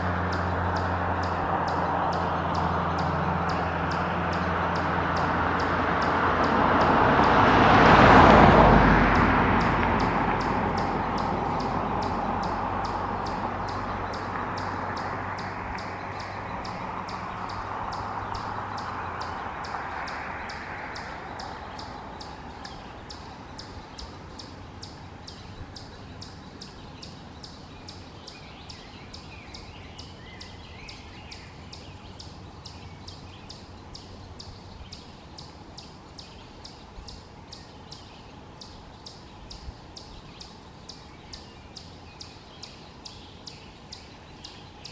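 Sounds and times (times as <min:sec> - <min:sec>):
vehicle passing: 0:00.0 - 0:44.9.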